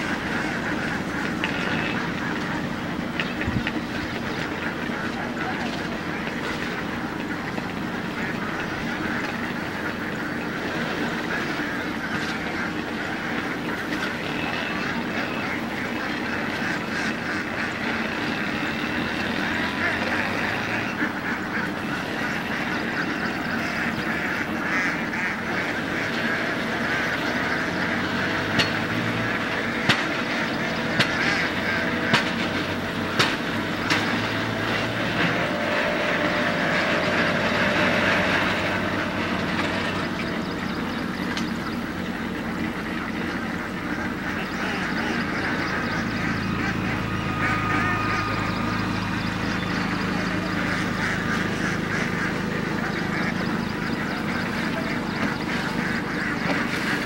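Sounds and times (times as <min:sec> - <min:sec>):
ducks quacking: 0:00.0 - 0:57.0
low steady hum: 0:00.0 - 0:57.0.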